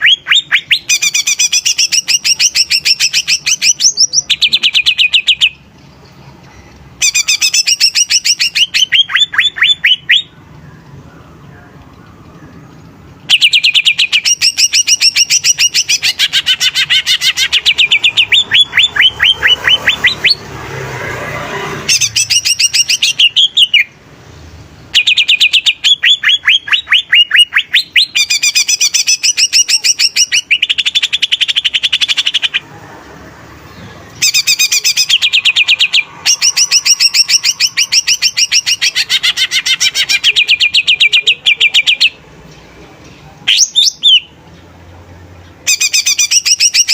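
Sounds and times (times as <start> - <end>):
bird singing shrill rapid notes: 0.0 - 5.7, 6.9 - 10.8, 13.2 - 24.0, 24.9 - 32.6, 34.2 - 42.2, 43.5 - 44.4, 45.6 - 46.9.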